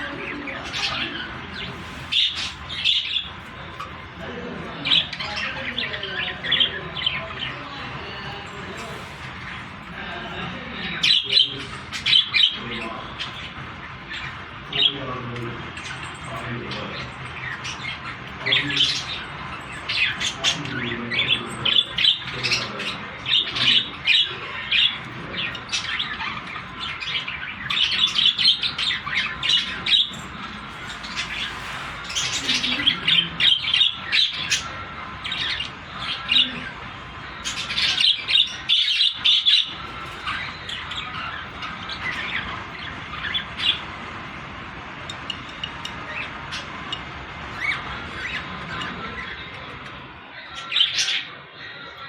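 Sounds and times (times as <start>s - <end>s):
budgerigars chirping: 0.0s - 52.0s.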